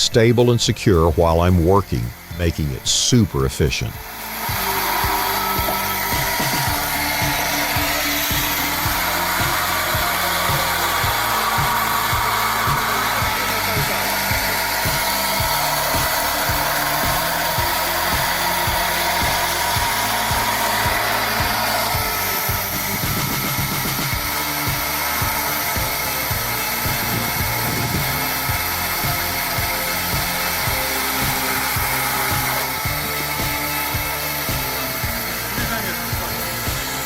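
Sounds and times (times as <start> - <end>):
background music with beat: 0.0 - 37.0
chainsaw running: 0.2 - 37.0.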